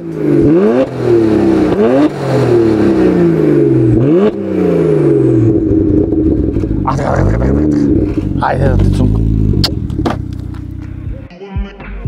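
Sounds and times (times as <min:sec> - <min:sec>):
car engine revving: 0:00.0 - 0:11.3.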